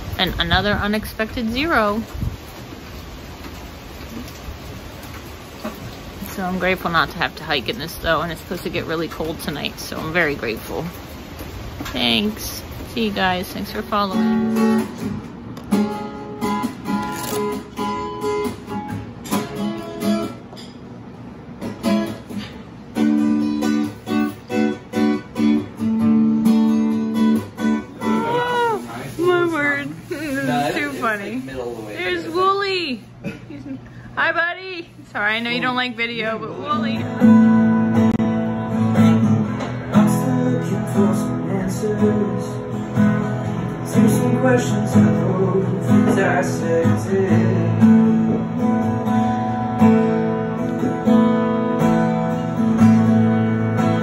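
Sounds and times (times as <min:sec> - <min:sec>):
acoustic guitar strumming: 0:00.0 - 0:02.1, 0:05.0 - 0:32.5, 0:35.3 - 0:54.0.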